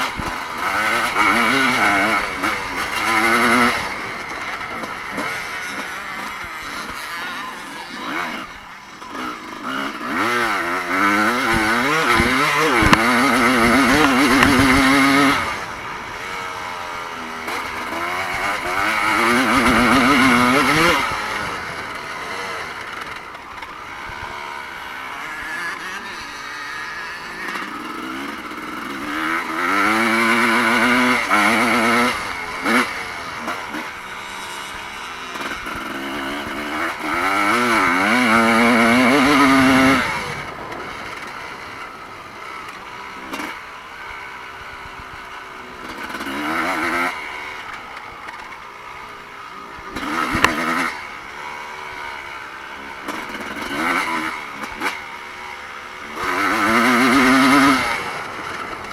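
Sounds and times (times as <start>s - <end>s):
motorcycle engines revving: 0.0s - 58.9s.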